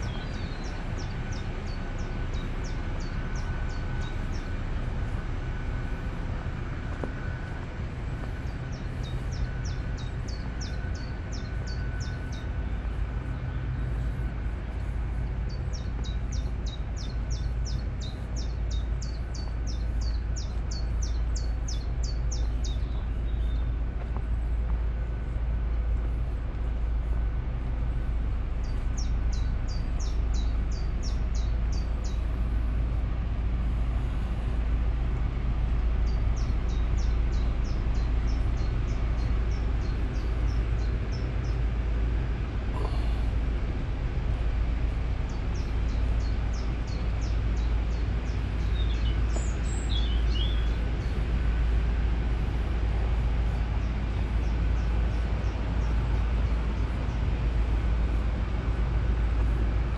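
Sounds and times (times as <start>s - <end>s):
songbird singing: 0.0s - 59.9s
steady low rumble: 0.0s - 59.9s.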